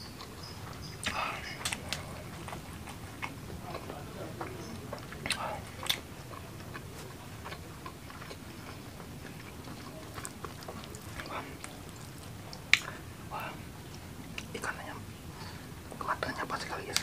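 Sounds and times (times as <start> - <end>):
man chewing food: 0.0 - 17.0.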